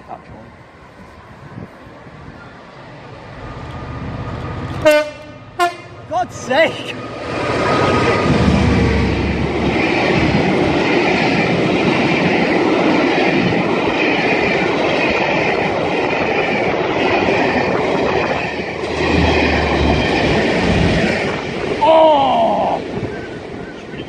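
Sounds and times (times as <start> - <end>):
freight train passing at speed: 0.0 - 24.0.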